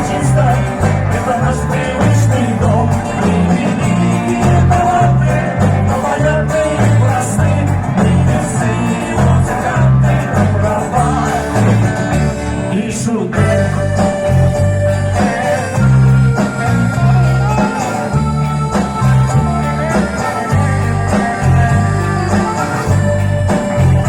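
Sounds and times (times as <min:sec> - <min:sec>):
bass line: 0:00.0 - 0:24.0
live pop band playing: 0:00.0 - 0:24.0.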